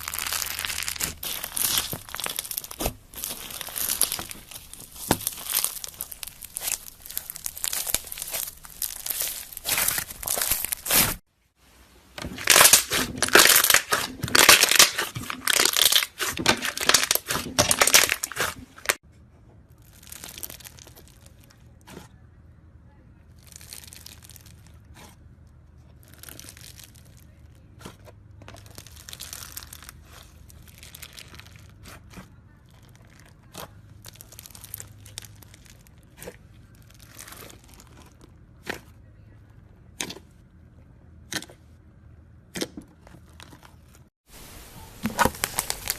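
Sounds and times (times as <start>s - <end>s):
slime squishing: 0.0s - 11.2s, 12.1s - 19.0s, 19.8s - 22.2s, 23.3s - 45.9s
slime crackling and crunching: 0.0s - 11.3s, 12.2s - 19.0s, 19.8s - 22.0s, 23.3s - 39.2s, 42.9s - 45.9s.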